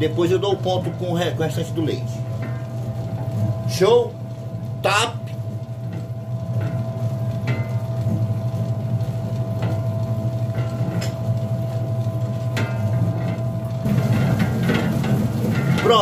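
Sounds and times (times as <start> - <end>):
electric dough mixer running: 0.0 - 16.0.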